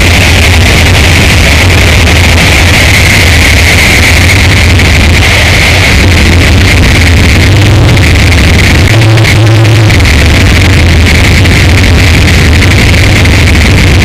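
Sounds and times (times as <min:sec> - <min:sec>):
harsh noise music: 0:00.0 - 0:14.0.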